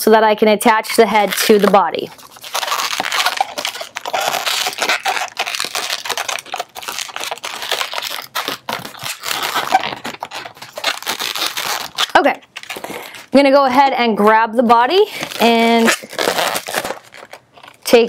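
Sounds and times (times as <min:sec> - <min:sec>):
balloons rubbing and squeaking: 0:00.7 - 0:13.4, 0:14.2 - 0:18.0.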